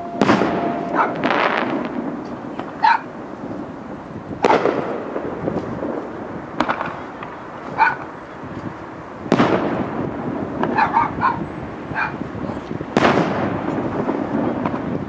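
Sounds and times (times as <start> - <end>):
firework booms with rumble: 0.0 - 15.0
firework sharp crack: 0.0 - 15.0.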